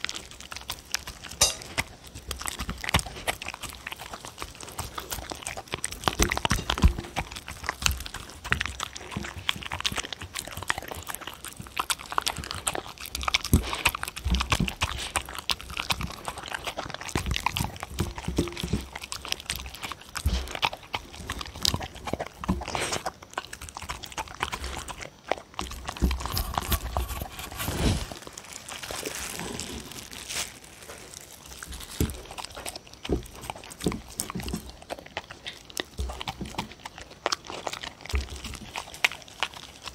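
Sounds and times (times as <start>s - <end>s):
dog licking and chewing food: 0.0s - 39.9s.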